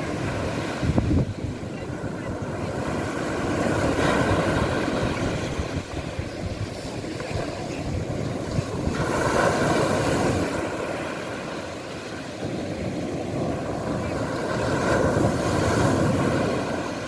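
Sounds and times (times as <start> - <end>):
waves washing on beach: 0.0 - 17.0.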